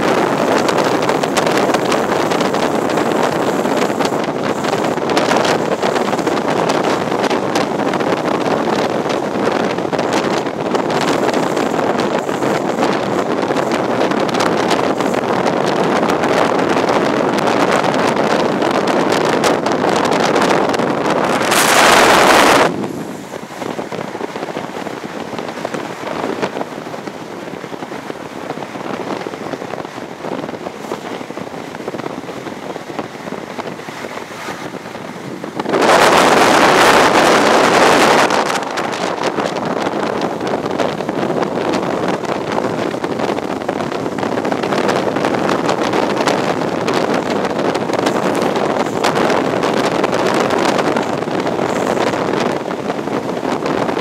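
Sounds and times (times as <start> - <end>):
train running noise: 0.0 - 54.0
wind rushing over microphone: 0.0 - 54.0.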